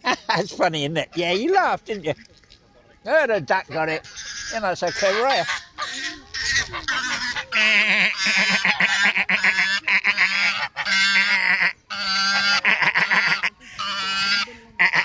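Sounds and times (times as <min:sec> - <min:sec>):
waterbirds calling harshly: 0:01.0 - 0:02.4, 0:03.1 - 0:15.0.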